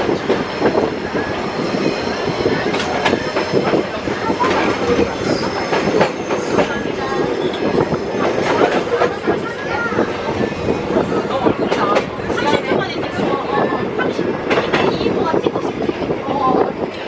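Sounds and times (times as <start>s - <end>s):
train running rumble: 0.0s - 17.0s.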